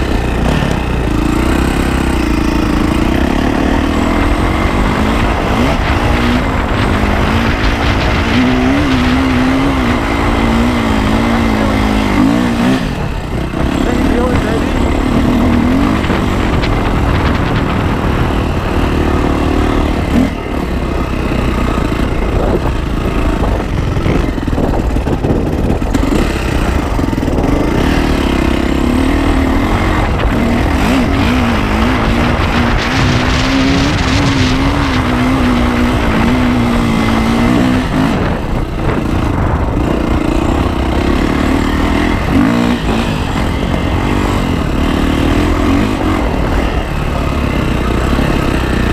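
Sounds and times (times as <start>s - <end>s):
dirt bike engine revving: 0.0s - 48.9s
rushing noise: 0.0s - 48.9s.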